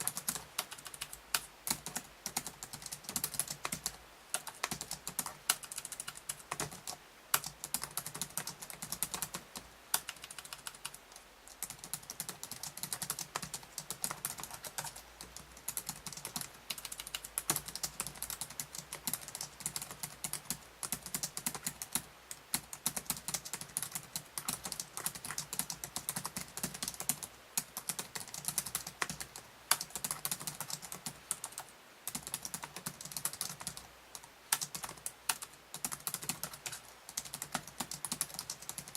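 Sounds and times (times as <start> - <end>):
fast typing on laptop keyboard: 0.0 - 38.9.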